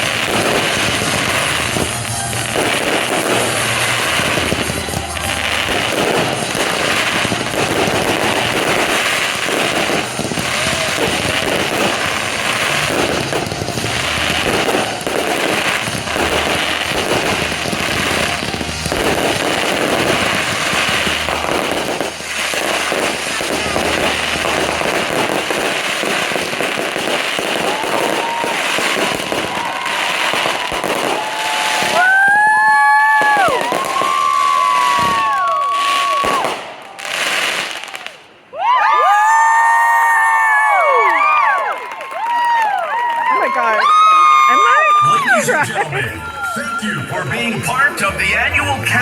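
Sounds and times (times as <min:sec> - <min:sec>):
fireworks bursting and crackling: 0:00.0 - 0:49.0.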